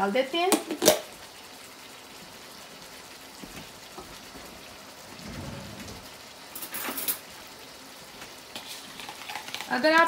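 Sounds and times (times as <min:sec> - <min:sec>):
food sizzling in wok: 0:00.0 - 0:10.0.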